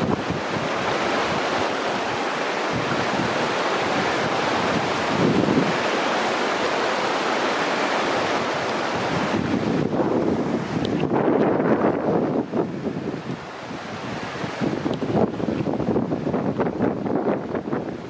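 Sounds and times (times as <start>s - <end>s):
river water rushing over gravel: 0.0s - 18.0s
wind buffeting microphone: 0.0s - 18.0s.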